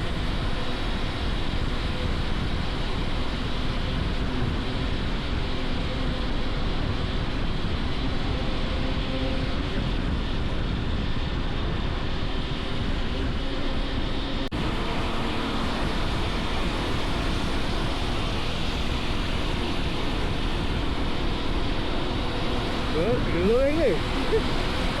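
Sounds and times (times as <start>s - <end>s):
motorcycle engine running: 0.0s - 25.0s
wind rush on microphone: 0.0s - 25.0s.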